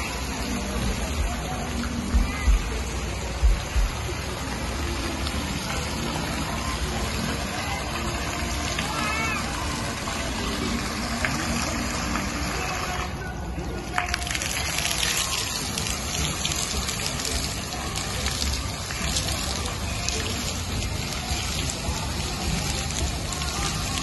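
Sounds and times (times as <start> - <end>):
fountain water splashing: 0.0 - 24.0.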